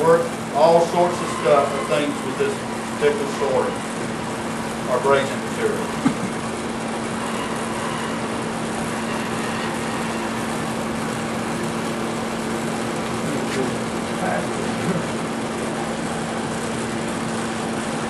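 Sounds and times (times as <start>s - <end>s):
torch flame hissing: 0.0s - 15.9s.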